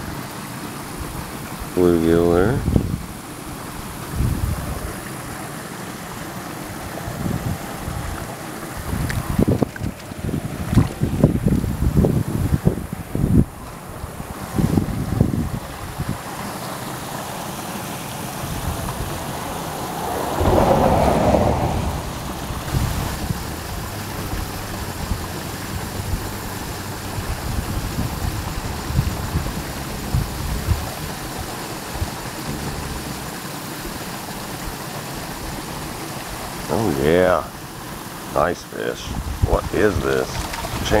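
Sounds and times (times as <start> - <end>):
wind buffeting microphone: 0.9 - 16.4, 18.2 - 33.9, 39.0 - 41.0.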